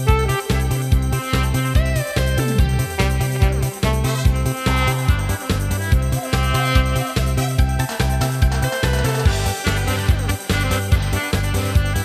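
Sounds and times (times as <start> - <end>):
backing track with bass beat: 0.0 - 12.0
saxophone melody: 0.0 - 12.0.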